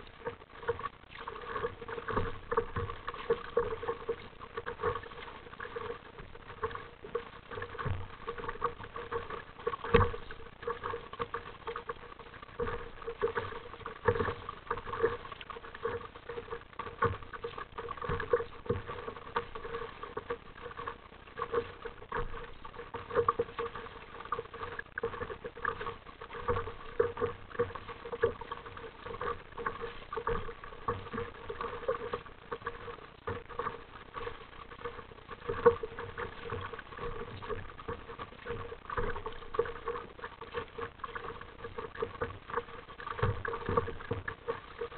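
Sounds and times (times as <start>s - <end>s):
water splashing against kayak hull: 0.0s - 44.9s.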